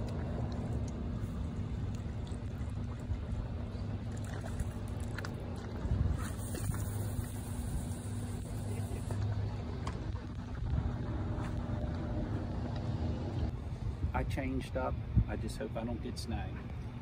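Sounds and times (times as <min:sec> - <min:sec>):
low rumble: 0:00.0 - 0:15.4
faint hum: 0:00.0 - 0:17.0.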